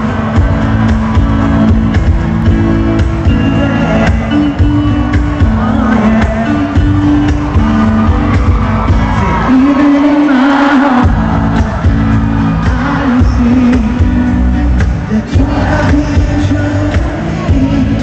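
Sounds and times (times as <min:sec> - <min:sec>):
acoustic pop band playing: 0:00.0 - 0:18.0
person singing: 0:03.0 - 0:18.0.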